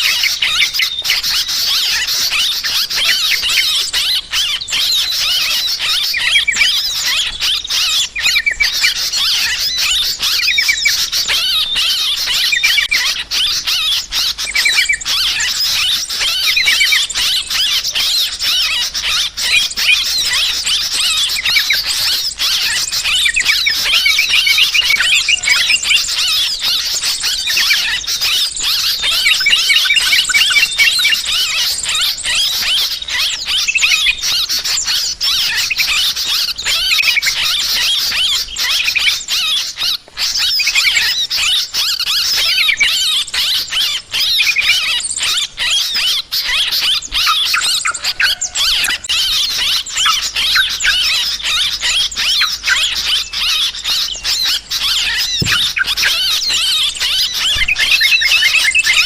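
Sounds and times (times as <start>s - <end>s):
flock of birds chattering: 0.0s - 59.0s.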